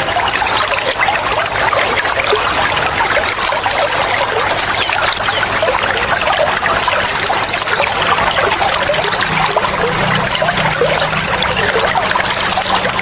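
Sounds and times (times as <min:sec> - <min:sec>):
small birds chirping: 0:00.0 - 0:13.0
water pouring and splashing: 0:00.0 - 0:13.0.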